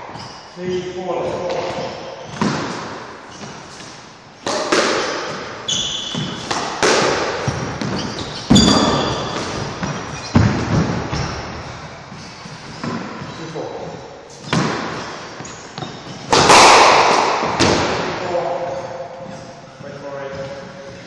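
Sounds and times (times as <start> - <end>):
shoes squeaking on wooden floor: 0.0 - 16.4, 18.3 - 21.0
squash ball hitting rackets and walls: 0.0 - 21.0.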